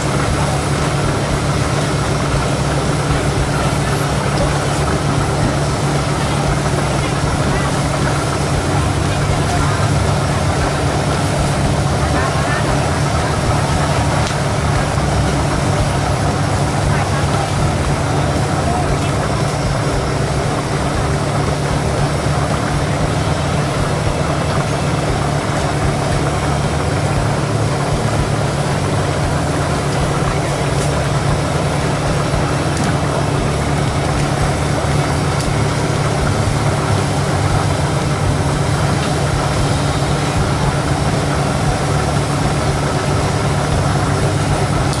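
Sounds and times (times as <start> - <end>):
mechanical drone with low hum: 0.0 - 45.0.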